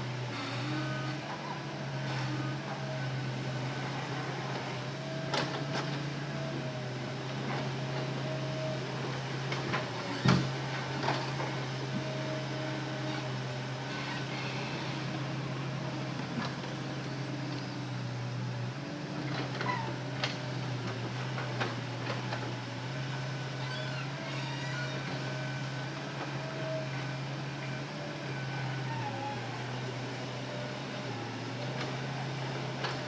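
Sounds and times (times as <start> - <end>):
excavator engine running: 0.1 - 33.0.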